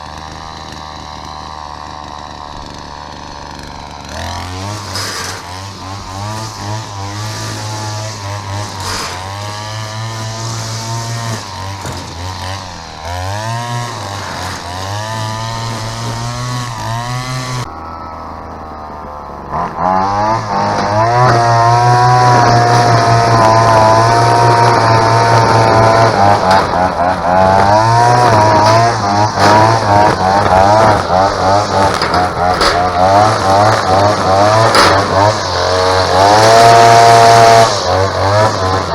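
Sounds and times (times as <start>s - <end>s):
line trimmer engine revving: 0.0s - 38.9s.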